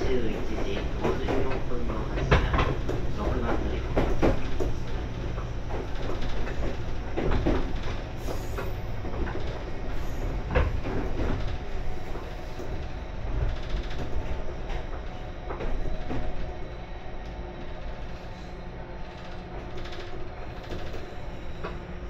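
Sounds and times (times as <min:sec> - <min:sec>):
track knocks and clatters: 0:00.0 - 0:22.0
train wheels and motors rumbling: 0:00.0 - 0:22.0.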